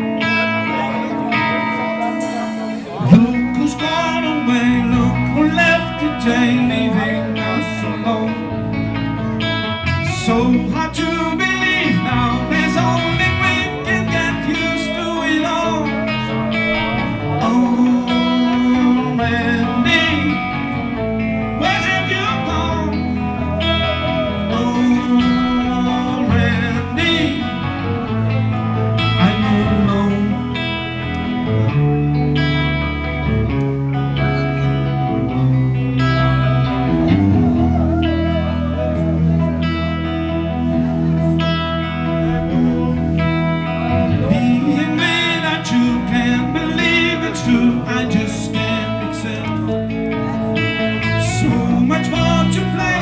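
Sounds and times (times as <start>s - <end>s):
man singing into a microphone: 0.0s - 31.8s, 36.0s - 53.0s
electric guitar: 0.0s - 53.0s.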